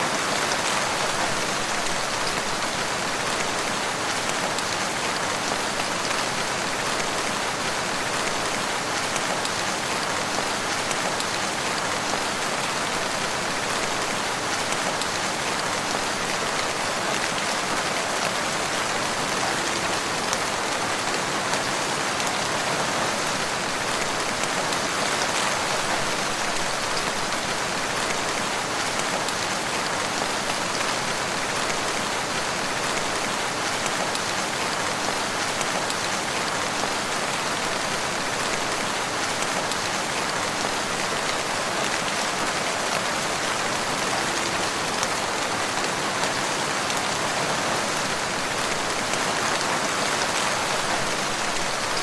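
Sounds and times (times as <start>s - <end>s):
steady rain pattering: 0.0s - 52.0s.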